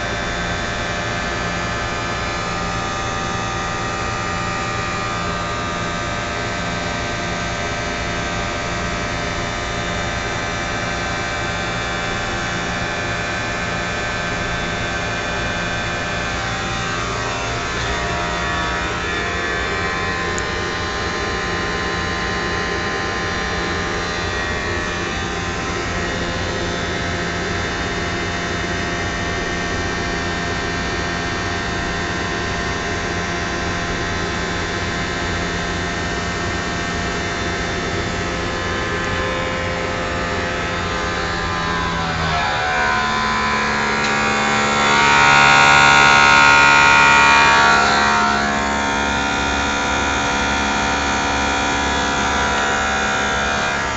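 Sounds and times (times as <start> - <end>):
blower motor whining: 0.0 - 53.9.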